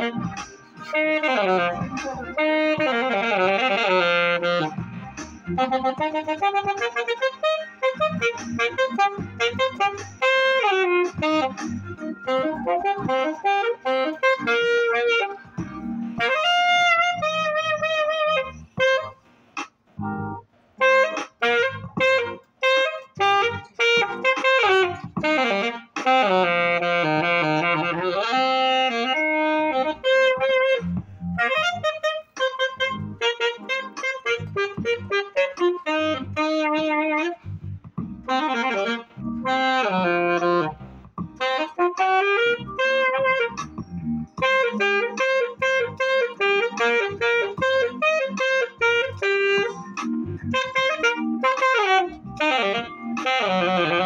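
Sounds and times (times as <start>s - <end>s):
alto saxophone solo: 0.0s - 19.2s, 20.3s - 54.0s.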